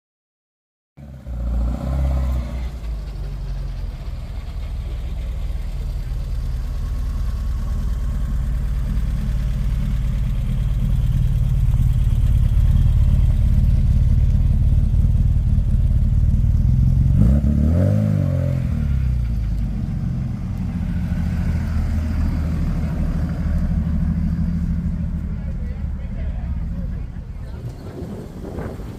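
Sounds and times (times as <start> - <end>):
car engine running and revving: 1.1 - 28.9.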